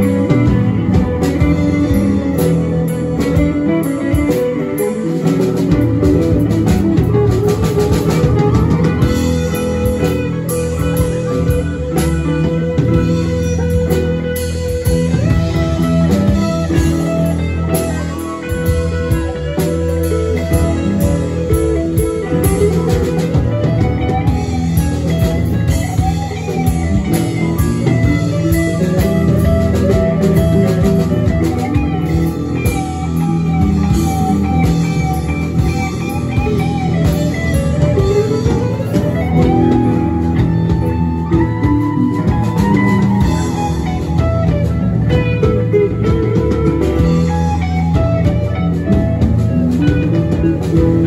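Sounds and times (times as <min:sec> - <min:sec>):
drum kit: 0:00.0 - 0:51.0
electric guitar lead: 0:00.0 - 0:51.0
keyboard: 0:00.0 - 0:51.0.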